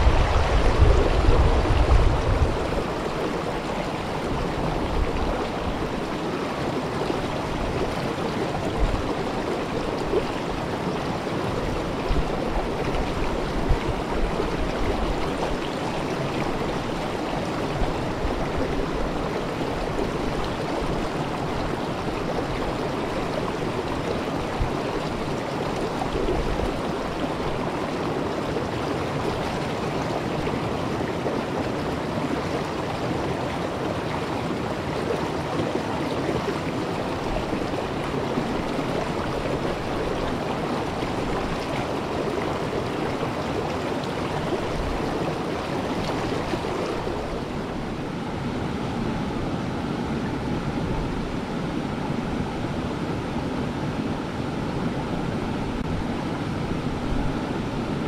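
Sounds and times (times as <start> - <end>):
water rushing over boulders: 0.0 - 58.0.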